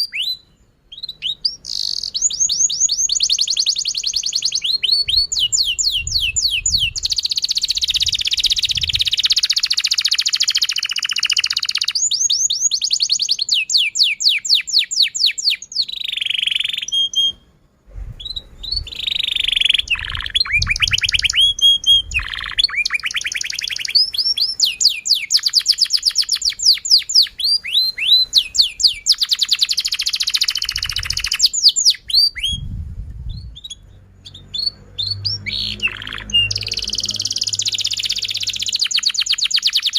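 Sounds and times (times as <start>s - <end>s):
canary singing rapid trills: 1.0s - 17.4s, 18.6s - 32.6s, 33.4s - 39.9s.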